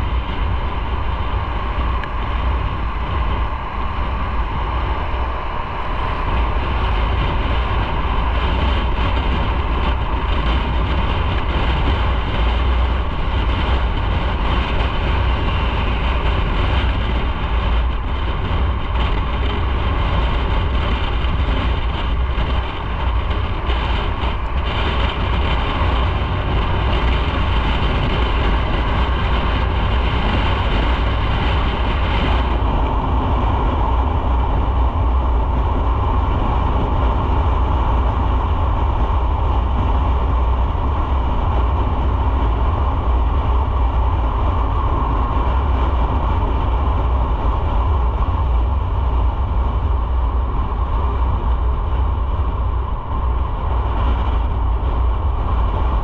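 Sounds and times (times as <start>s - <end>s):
motorcycle engine rumble: 0.0s - 56.0s
wind noise: 0.0s - 56.0s.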